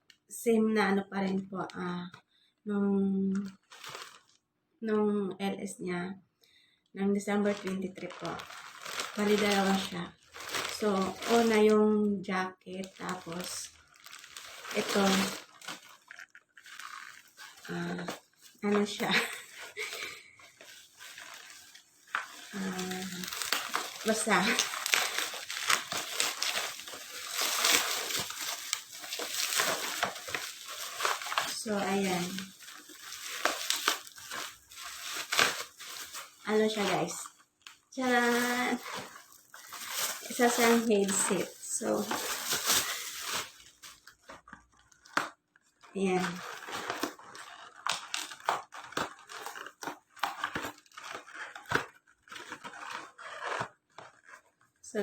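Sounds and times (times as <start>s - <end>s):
plastic packaging crinkling: 3.3s - 4.4s, 7.3s - 11.9s, 12.7s - 54.8s.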